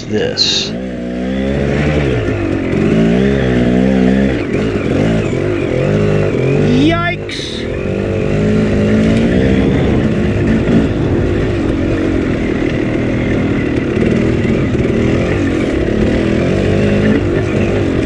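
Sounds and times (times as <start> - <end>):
dirt bike engine: 0.0 - 18.0.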